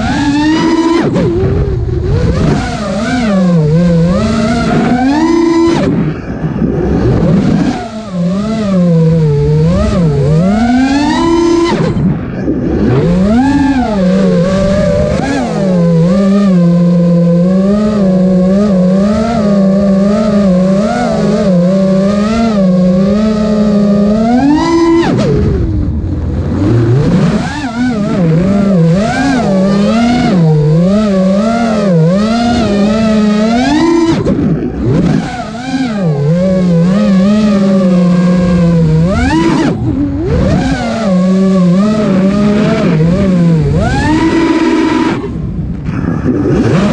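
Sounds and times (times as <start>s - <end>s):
drone motors buzzing: 0.0s - 46.9s.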